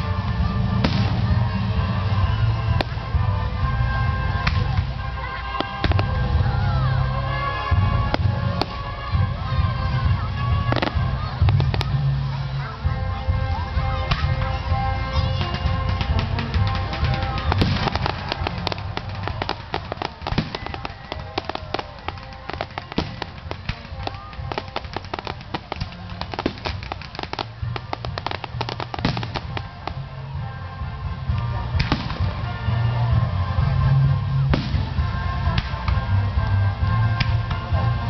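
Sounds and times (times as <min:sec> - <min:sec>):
fireworks crackling and popping: 0:00.0 - 0:38.0
music with heavy bass: 0:00.0 - 0:38.0.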